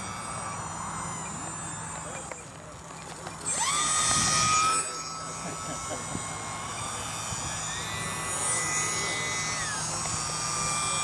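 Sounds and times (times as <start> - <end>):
higher whine rising in pitch: 0.0 - 11.0
model plane motor whine: 0.0 - 11.0.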